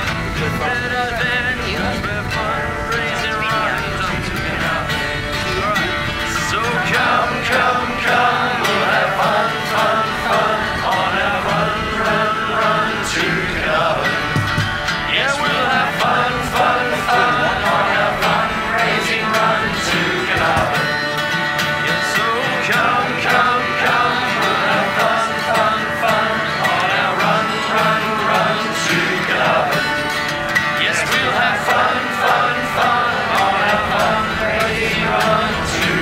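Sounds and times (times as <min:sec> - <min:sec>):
acoustic guitars strumming: 0:00.0 - 0:36.0
group of voices singing: 0:00.0 - 0:36.0.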